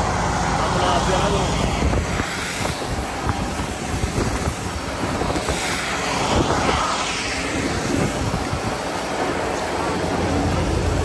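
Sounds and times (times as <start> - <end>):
airflow buffeting microphone: 0.0 - 11.0
misting fan blowing air: 0.0 - 11.0.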